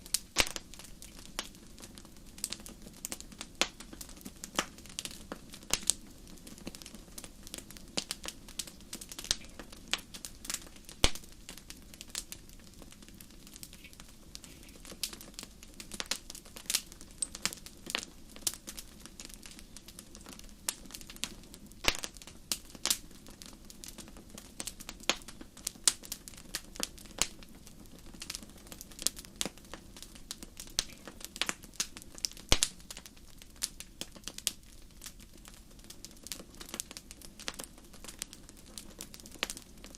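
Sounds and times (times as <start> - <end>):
fire low hiss: 0.0 - 39.9
wood fire popping and snapping: 0.0 - 39.9.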